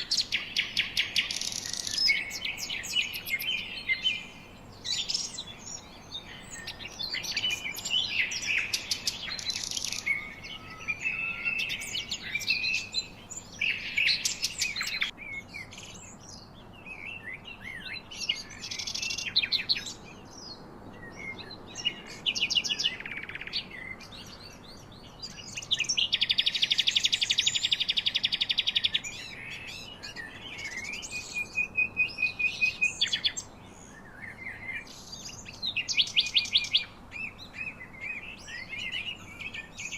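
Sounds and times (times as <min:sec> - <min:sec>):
loud rapid bird trill: 0:00.0 - 0:20.4, 0:21.0 - 0:39.9
songbirds chirping and singing: 0:00.0 - 0:39.9.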